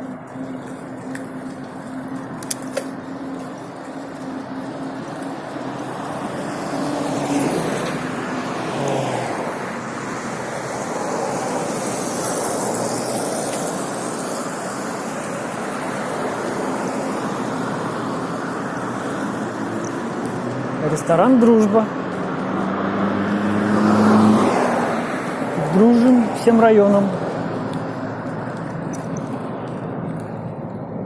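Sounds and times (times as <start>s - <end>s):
low engine hum: 0.0s - 31.0s
wind and tyre rush: 0.0s - 31.0s.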